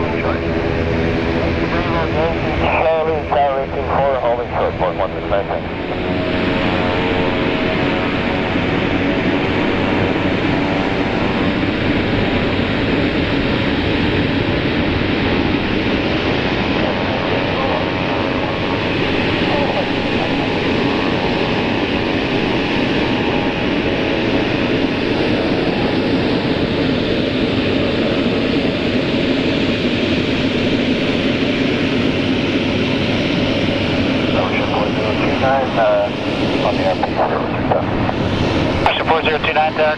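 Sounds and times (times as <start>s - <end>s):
steady whining tones: 0.0s - 39.9s
turboprop engines running: 0.0s - 39.9s.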